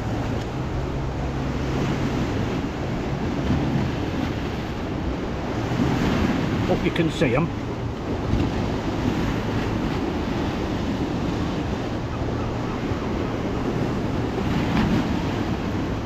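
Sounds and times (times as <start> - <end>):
sea surf breaking on sea wall: 0.0 - 16.0
wind buffeting microphone: 0.0 - 16.0.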